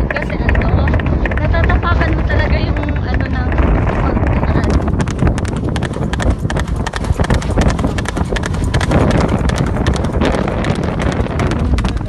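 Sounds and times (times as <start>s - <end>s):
horse hooves clopping: 0.0s - 12.0s.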